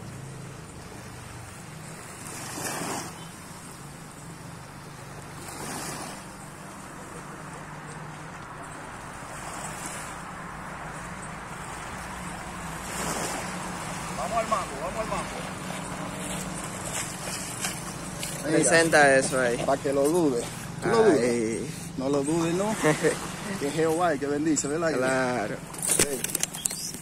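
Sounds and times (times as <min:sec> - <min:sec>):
sea surf washing in: 0:00.1 - 0:26.8.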